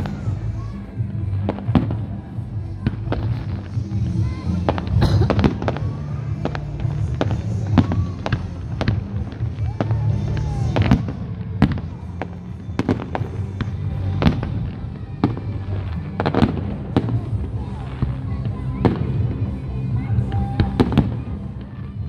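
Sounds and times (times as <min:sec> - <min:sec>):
fireworks bangs and crackles: 0:00.0 - 0:22.0
music with low bass line: 0:00.0 - 0:22.0.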